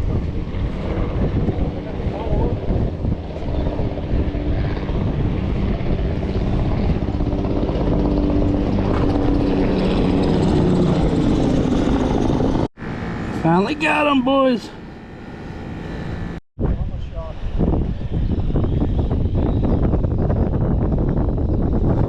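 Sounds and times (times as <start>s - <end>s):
wind rumbling on microphone: 0.0s - 13.4s, 15.5s - 22.0s
humming engine drone: 0.0s - 22.0s.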